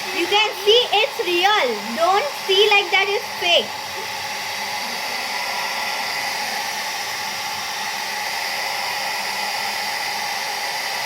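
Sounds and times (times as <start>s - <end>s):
hair dryer blowing: 0.0s - 11.0s.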